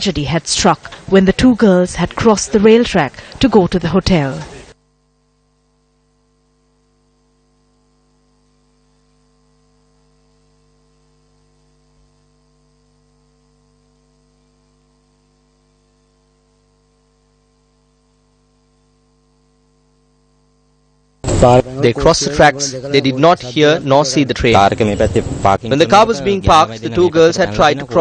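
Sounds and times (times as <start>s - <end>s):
faint electrical mains hum: 0.0s - 28.0s.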